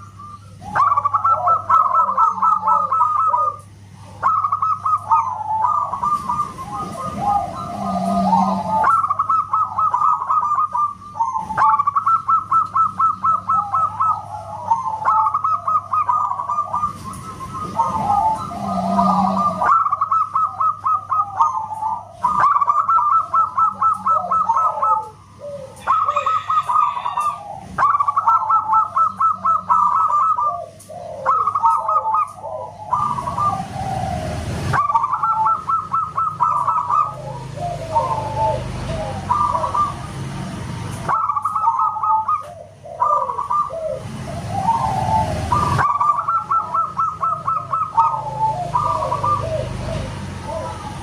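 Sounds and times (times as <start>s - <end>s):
doves cooing: 0.0s - 51.0s.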